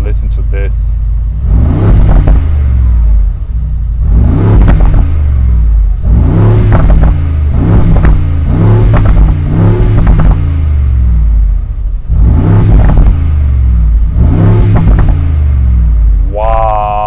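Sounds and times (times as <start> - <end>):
car engine revving: 0.0 - 17.0
exhaust crackles: 0.0 - 17.0.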